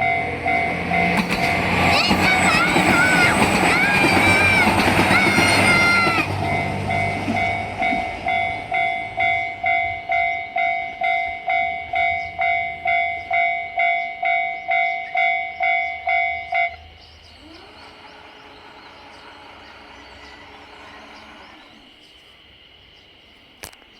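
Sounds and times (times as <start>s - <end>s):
level crossing alarm clanging: 0.0s - 22.0s
train rumble: 0.0s - 23.1s.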